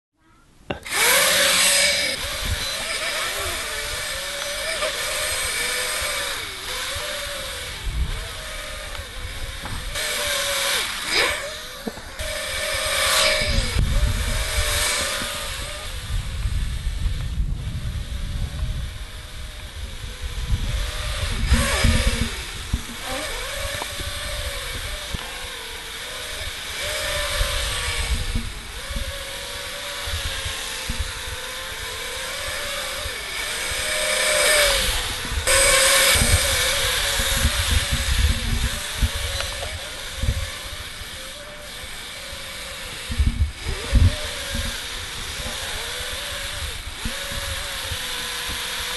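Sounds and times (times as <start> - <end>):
drone propellers whining: 0.3 - 48.9.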